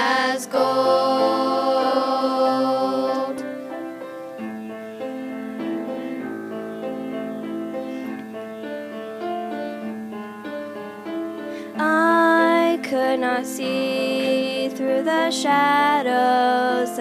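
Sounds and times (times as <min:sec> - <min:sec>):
slow piano hymn: 0:00.0 - 0:17.0.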